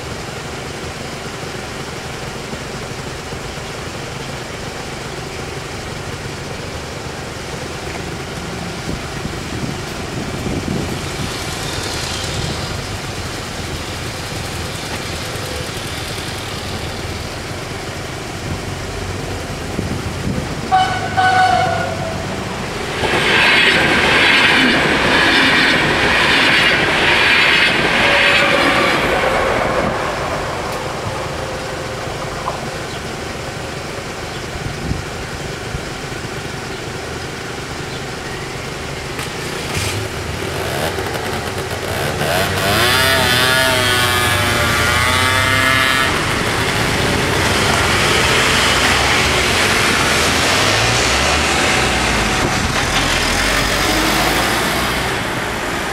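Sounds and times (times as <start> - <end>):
car and scooter engines: 0.0 - 55.9
train passing: 0.0 - 55.9.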